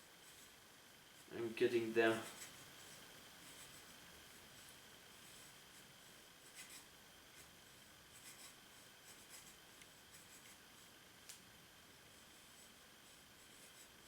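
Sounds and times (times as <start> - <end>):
faint scratches and rubs: 0.0 - 11.0, 12.0 - 14.0.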